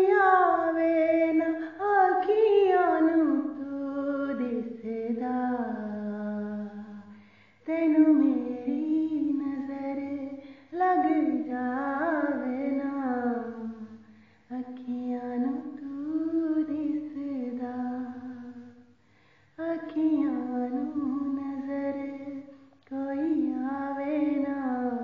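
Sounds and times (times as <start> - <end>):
woman singing unaccompanied: 0.0 - 18.9, 19.6 - 25.0.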